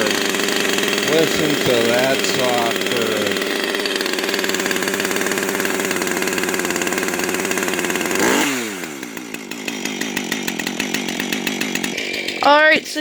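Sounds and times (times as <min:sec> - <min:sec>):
chainsaw idling and revving: 0:00.0 - 0:13.0.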